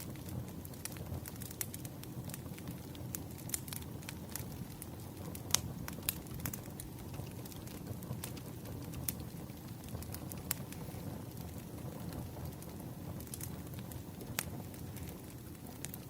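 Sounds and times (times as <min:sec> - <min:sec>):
firewood crackling and popping: 0:00.0 - 0:16.0
low rumble of fire: 0:00.0 - 0:16.0.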